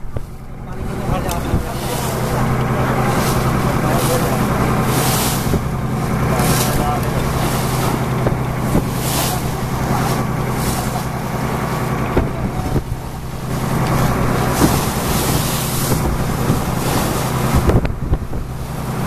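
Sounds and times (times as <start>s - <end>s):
motorboat engine humming: 0.0s - 19.0s
wind buffeting microphone: 0.0s - 19.0s.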